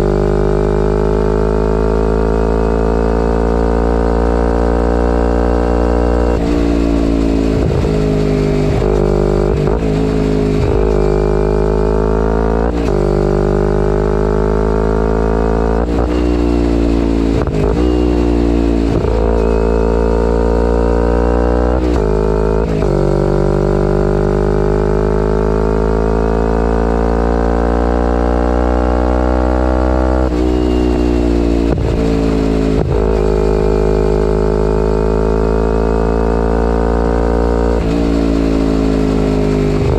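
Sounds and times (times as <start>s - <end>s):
motorcycle engine through gears: 0.0s - 39.9s.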